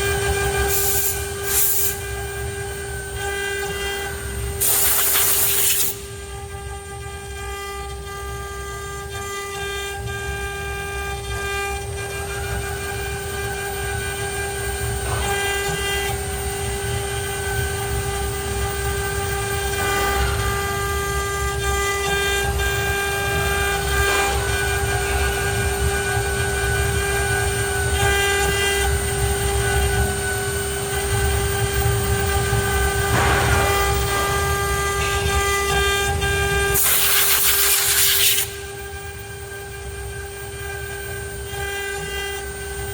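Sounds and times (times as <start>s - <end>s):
cnc router spindle whine: 0.0s - 42.9s.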